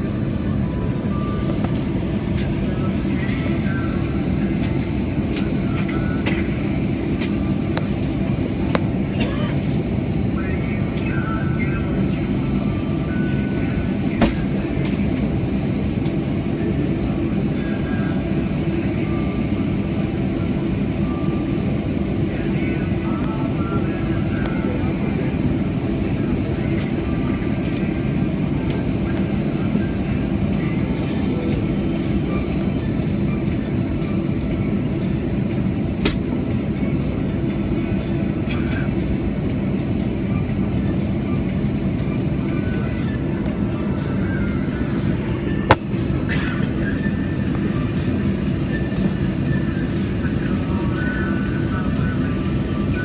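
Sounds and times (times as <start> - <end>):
airliner engine rumble: 0.0 - 53.0.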